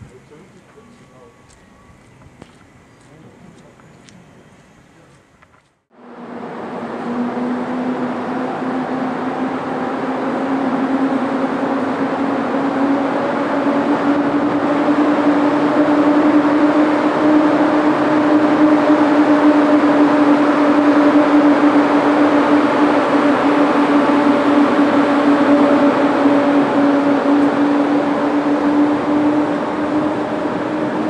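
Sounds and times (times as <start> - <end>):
electric locomotive whine: 0.0 - 31.0
train running gear rumble: 0.0 - 31.0.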